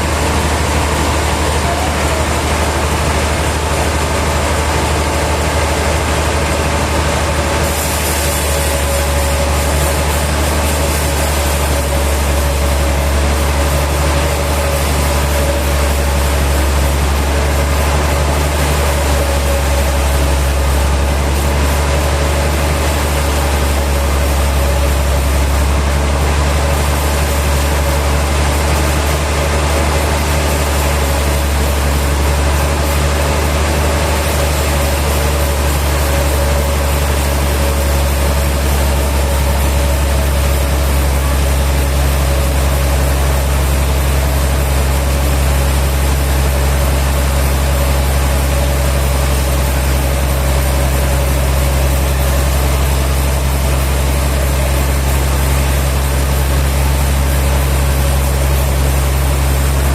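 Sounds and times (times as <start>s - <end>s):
high machine whine: 0.0s - 59.9s
machinery engine hum: 0.0s - 59.9s.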